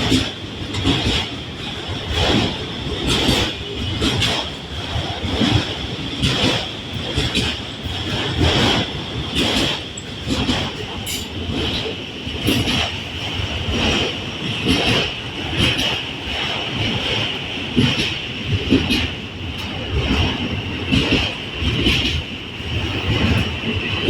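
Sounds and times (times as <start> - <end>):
train wheels knocking over rail joints: 0.0 - 24.0.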